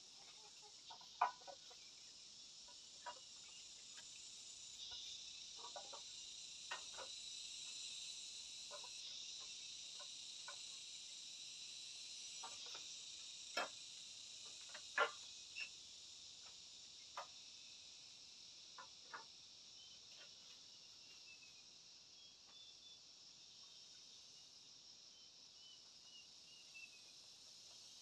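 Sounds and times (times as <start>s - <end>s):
high-pitched insect noise: 0.0s - 28.0s.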